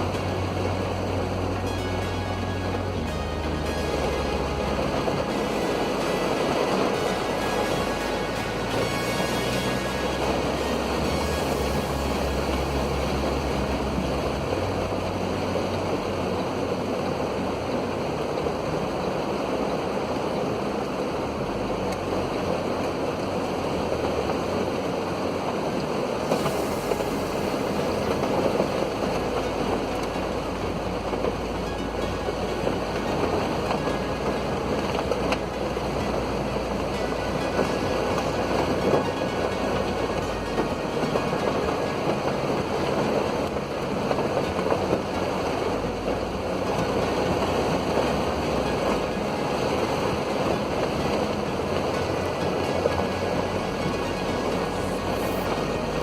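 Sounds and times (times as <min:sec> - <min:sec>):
rain on car: 0:00.0 - 0:56.0
tyres on wet road: 0:00.0 - 0:56.0.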